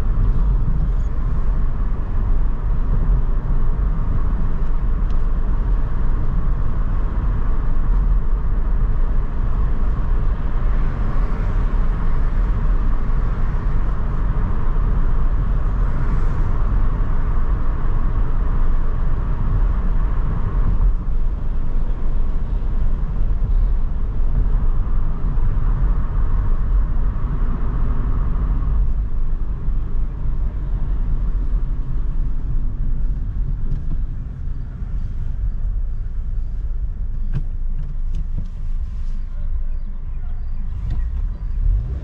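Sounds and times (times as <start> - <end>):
car tyres and engine rumble: 0.0 - 42.0.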